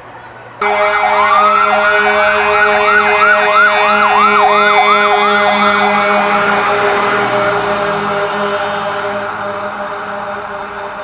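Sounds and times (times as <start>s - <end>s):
emergency siren wailing and yelping: 0.6s - 11.0s.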